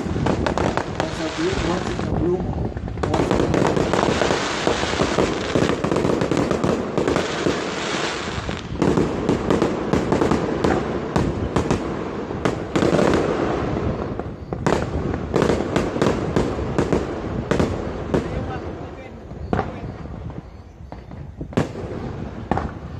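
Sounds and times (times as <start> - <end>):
firecrackers crackling: 0.0 - 22.9
firework bangs: 0.0 - 22.9.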